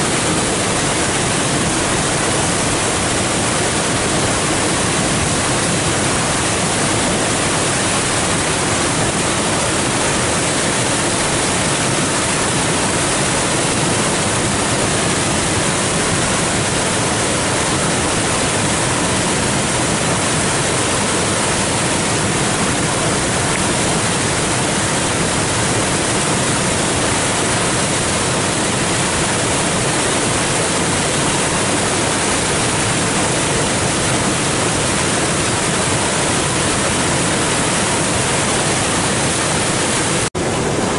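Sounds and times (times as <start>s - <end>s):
rushing white-water rapids: 0.0s - 40.9s.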